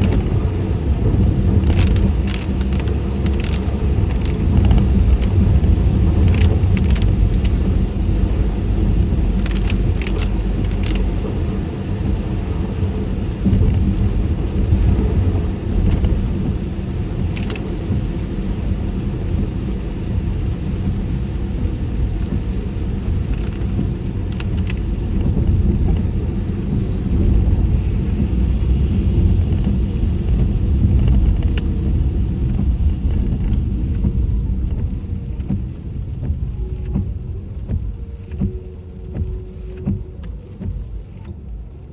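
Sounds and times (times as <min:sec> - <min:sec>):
road and tyre noise: 0:00.0 - 0:41.9.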